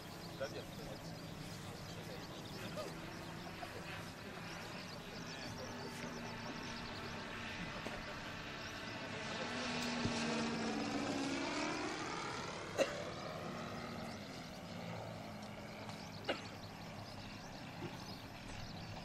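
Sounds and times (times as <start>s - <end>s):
model airplane engine droning: 0.0s - 19.0s.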